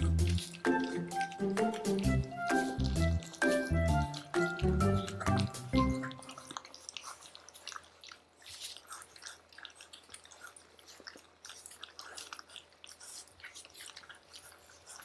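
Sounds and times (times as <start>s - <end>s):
puppies chewing and crunching: 0.0s - 15.0s.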